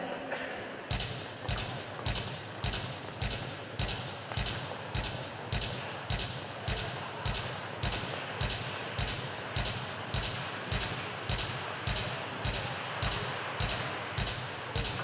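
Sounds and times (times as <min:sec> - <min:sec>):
practice beat thump and click: 0:00.9 - 0:15.0.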